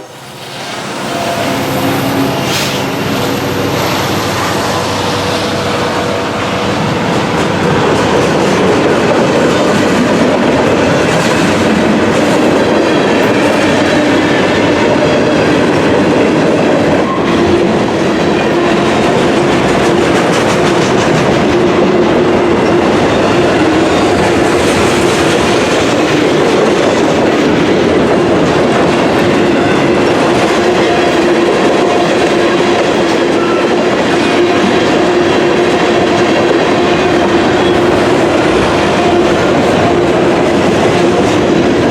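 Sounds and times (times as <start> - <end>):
train wheels clacking over rail joints: 2.2 - 41.9.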